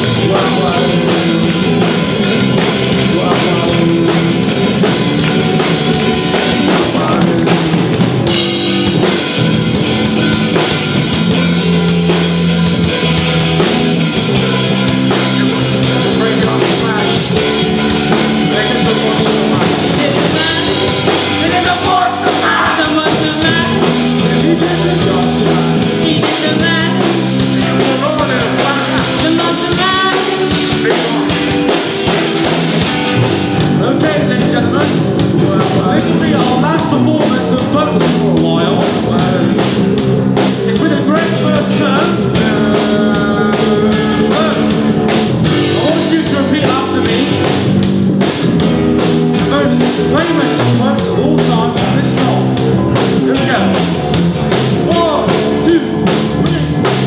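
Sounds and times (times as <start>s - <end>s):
drum kit: 0.0s - 57.0s
live rock band playing: 0.0s - 57.0s.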